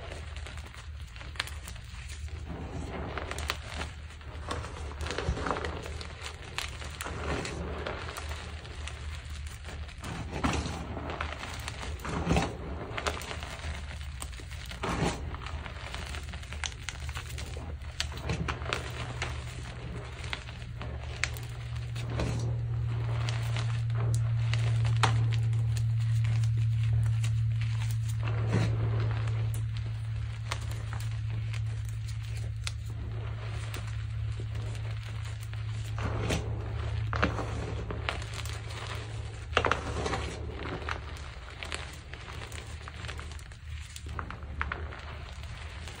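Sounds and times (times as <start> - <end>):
chalk crushing and crunching: 0.0 - 46.0
steady low hum: 0.0 - 46.0.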